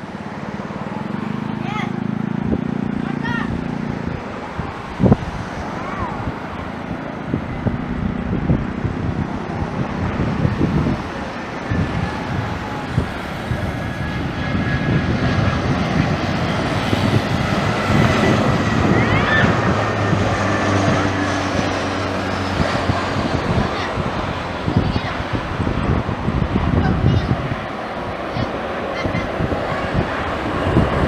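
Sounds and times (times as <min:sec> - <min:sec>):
jet engines rushing and whining: 0:00.0 - 0:31.0.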